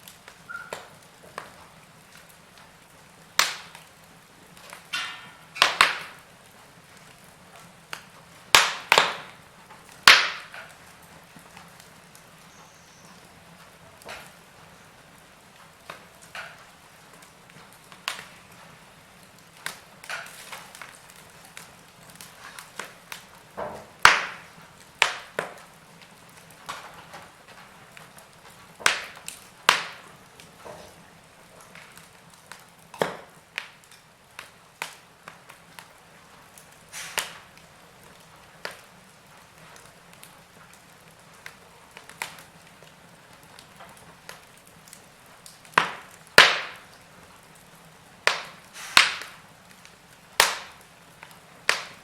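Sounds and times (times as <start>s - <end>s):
faint steady hiss: 0.0s - 52.0s
logs crackling and popping: 0.0s - 52.0s.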